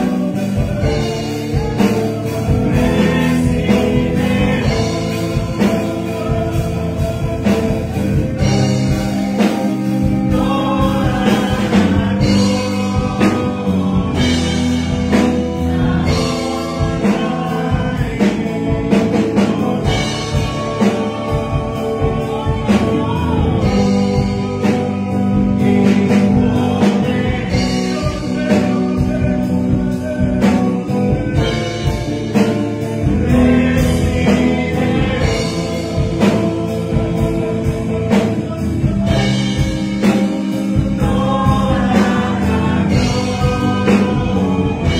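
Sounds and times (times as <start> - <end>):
instrumental backing with beat: 0.0 - 44.9
man singing into microphone: 0.0 - 44.9.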